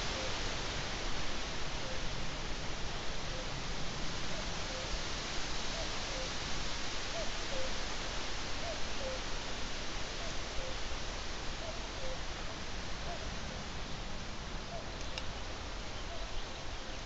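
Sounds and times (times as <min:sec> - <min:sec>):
microphone hiss: 0:00.0 - 0:17.0.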